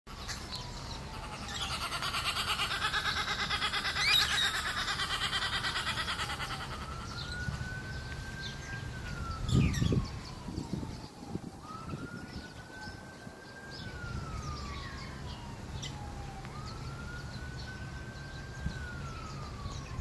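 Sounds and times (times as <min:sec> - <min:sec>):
birds chirping: 0:00.1 - 0:20.0
distant siren: 0:00.1 - 0:20.0.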